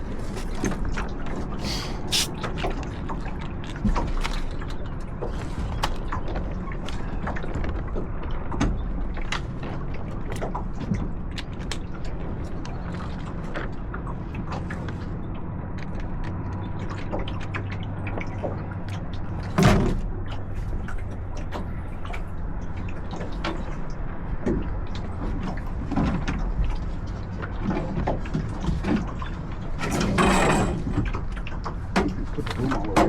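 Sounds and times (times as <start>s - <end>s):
water noise: 0.0s - 33.0s
wind: 0.0s - 33.0s.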